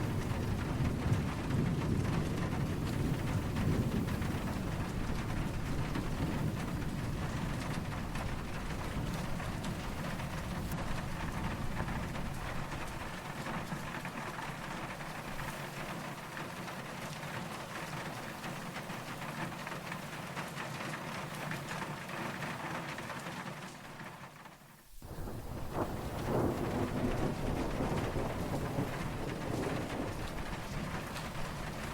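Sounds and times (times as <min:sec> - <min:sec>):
distant thunder rumble: 0:00.0 - 0:20.0, 0:25.0 - 0:31.9
steady rain falling: 0:00.0 - 0:31.9.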